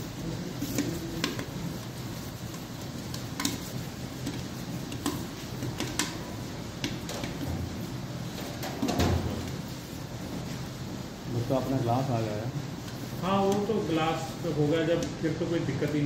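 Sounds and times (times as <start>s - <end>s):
popcorn machine hum: 0.0s - 16.0s
popcorn popping: 0.0s - 16.0s.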